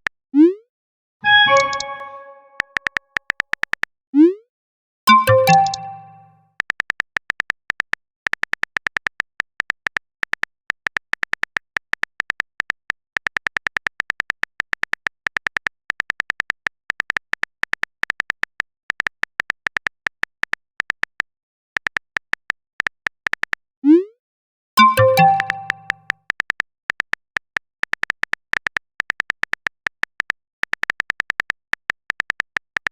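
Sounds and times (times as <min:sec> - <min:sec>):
phone keyboard typing clicks: 0:01.3 - 0:03.9, 0:05.1 - 0:21.2, 0:24.8 - 0:32.9.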